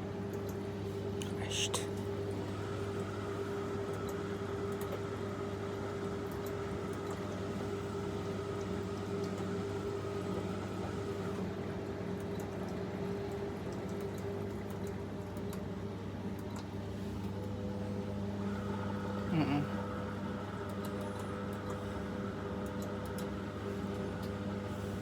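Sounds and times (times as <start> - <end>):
washing machine running: 0.0 - 1.2, 1.9 - 25.0.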